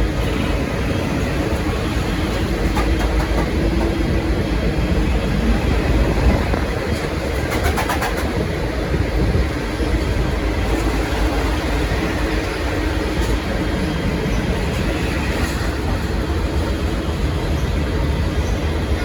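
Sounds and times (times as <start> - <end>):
train rumbling along track: 0.0 - 19.0
wheels clicking over rail joints: 0.0 - 19.0.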